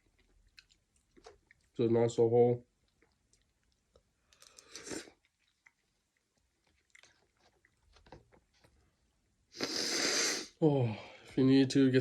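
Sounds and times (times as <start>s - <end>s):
person chewing soup: 0.0s - 1.8s, 2.7s - 10.6s.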